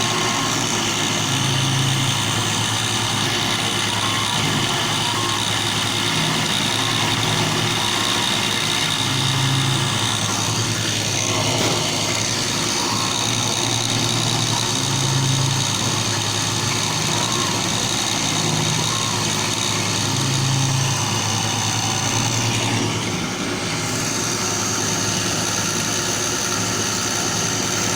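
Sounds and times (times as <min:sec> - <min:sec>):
cnc machine whining: 0:00.0 - 0:27.9.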